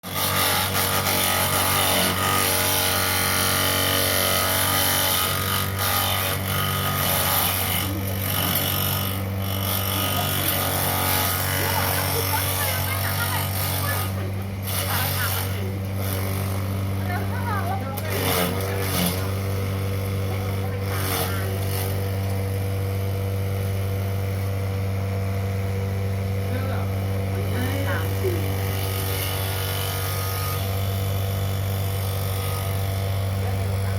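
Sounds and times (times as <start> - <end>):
chaff cutter motor hum: 0.0 - 33.9
cutting blades whirring: 0.0 - 33.9
bursts of machine noise: 0.1 - 33.9.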